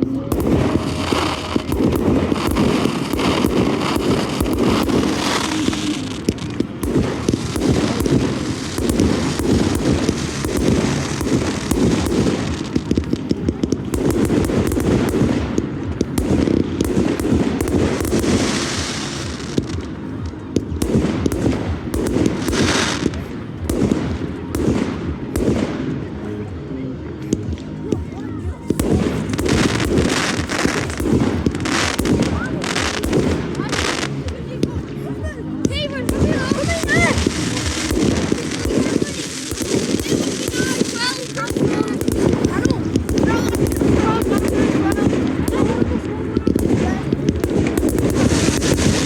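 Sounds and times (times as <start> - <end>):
fireworks hissing bursts: 0.0 - 26.4, 27.4 - 49.0
fireworks bangs and crackles: 0.0 - 49.0.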